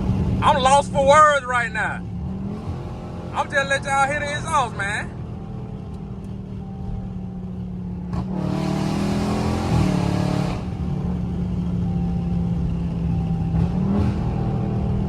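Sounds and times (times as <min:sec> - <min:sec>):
car exhaust droning and revving: 0:00.0 - 0:15.0.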